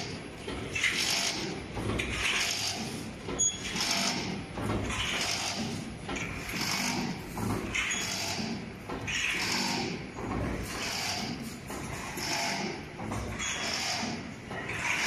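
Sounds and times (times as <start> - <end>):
wire mesh weaving machine rattling: 0.0 - 15.0.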